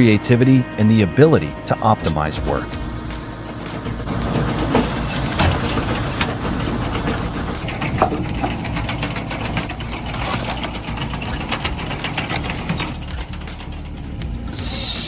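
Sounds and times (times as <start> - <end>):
high squeaks: 0.0 - 15.0
machine hum: 0.0 - 15.0
metal clanks and knocks: 1.2 - 14.8.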